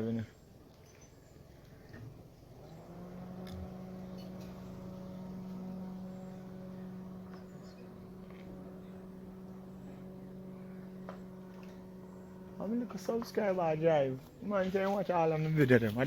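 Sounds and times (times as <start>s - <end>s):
steady motor hum: 0.0s - 16.0s.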